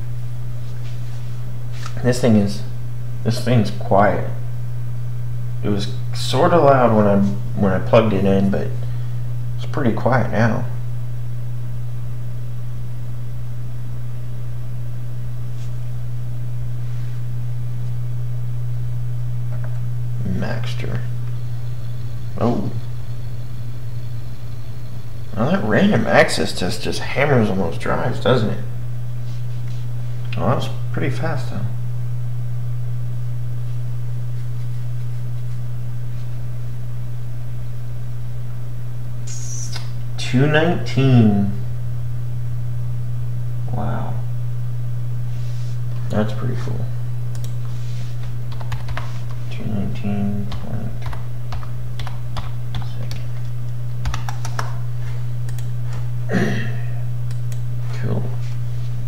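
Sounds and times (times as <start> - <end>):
hard disk drive humming: 0.0 - 59.0.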